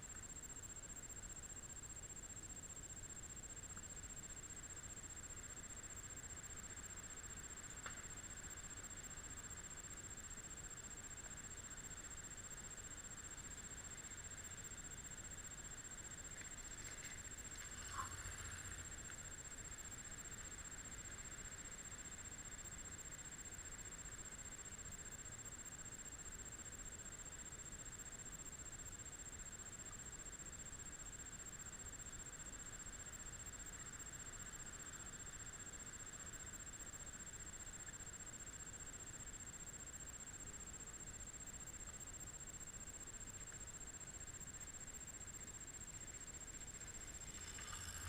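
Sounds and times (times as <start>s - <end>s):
faint steady hiss: 0.0s - 48.0s.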